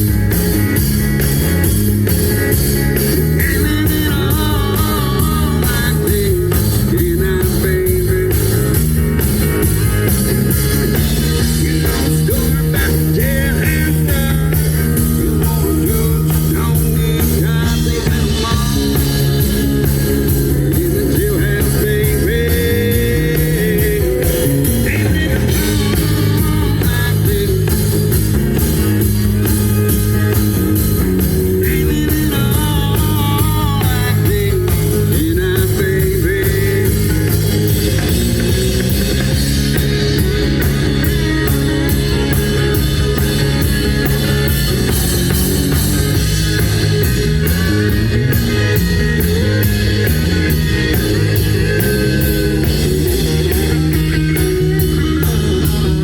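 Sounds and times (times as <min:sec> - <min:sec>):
electric guitar: 0:00.0 - 0:56.0
rock band playing: 0:00.0 - 0:56.0.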